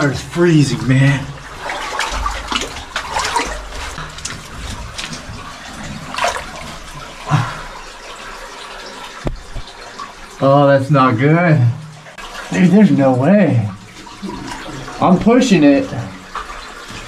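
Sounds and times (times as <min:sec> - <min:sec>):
stream running over rock: 0:00.0 - 0:17.0
water splashing and sloshing: 0:00.0 - 0:17.0.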